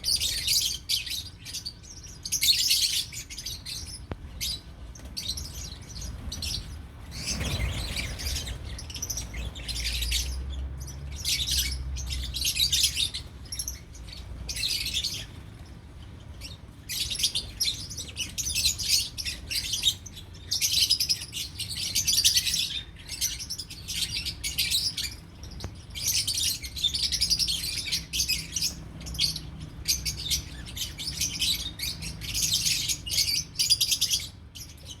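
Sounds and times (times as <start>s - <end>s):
lovebirds chirping: 0.0s - 35.0s.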